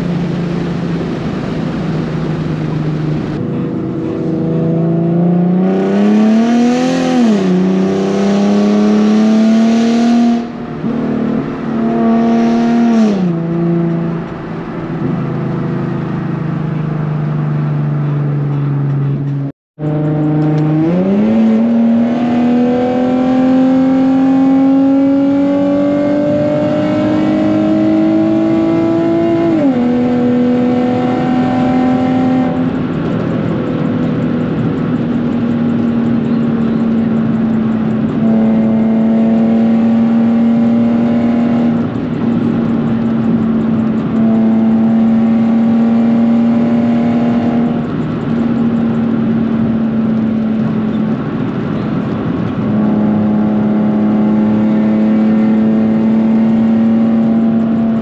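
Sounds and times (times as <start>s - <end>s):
car engine revving at full throttle: 0.0s - 58.0s.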